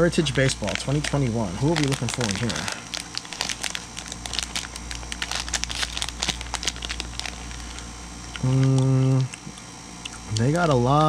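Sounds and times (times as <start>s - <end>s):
plastic wrapper crinkling and tearing: 0.3s - 9.4s.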